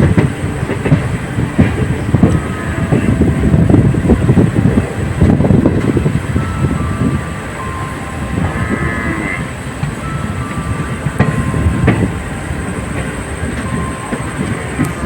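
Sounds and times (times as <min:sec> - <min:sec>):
rail joint clicks: 0:00.0 - 0:15.0
train wheels rumbling on track: 0:00.0 - 0:15.0.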